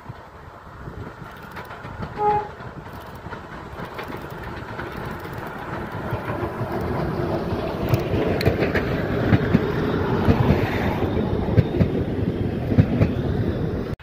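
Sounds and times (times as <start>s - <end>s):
diesel locomotive engine running: 0.0s - 14.0s
train wheels clicking over rail joints: 0.0s - 14.0s.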